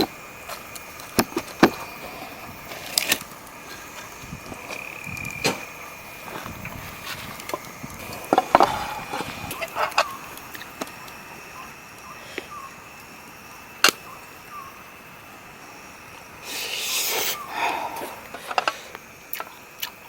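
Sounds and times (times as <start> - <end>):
insect chirring: 0.0 - 20.0.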